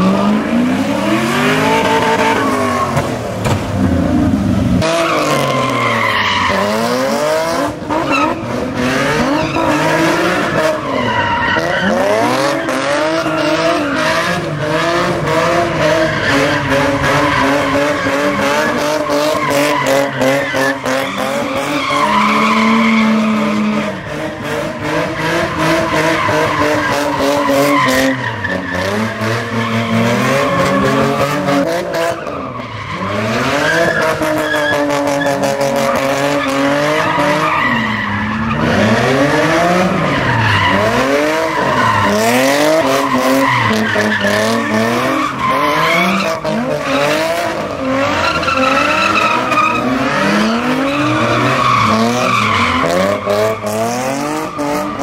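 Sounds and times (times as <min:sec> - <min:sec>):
car engine revving: 0:00.0 - 0:55.0
tyres squealing on pavement: 0:01.5 - 0:03.2, 0:04.8 - 0:55.0.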